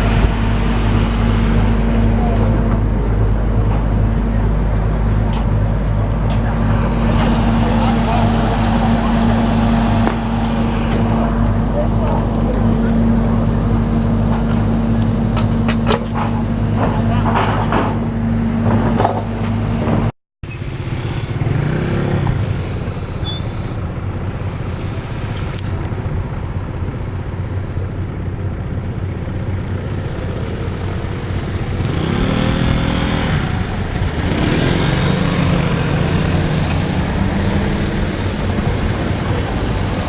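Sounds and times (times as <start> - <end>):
engine revving: 0.0 - 23.8, 30.2 - 40.0
vehicle engines humming: 0.0 - 40.0.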